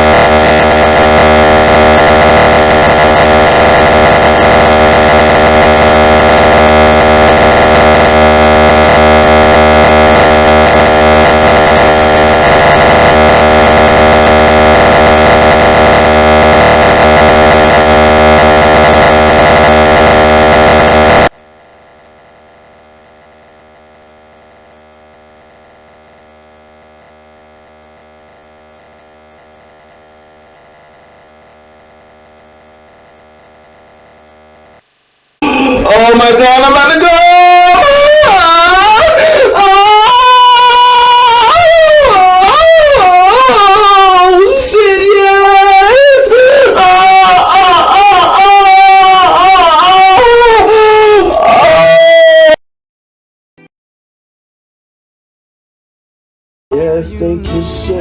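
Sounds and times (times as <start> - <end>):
steady hum: 0.0 - 50.2
harsh synthesized noise: 0.0 - 52.6.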